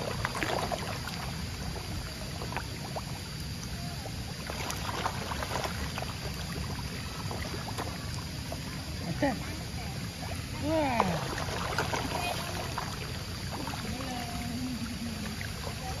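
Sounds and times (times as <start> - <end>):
fish splashing at water surface: 0.0 - 16.0.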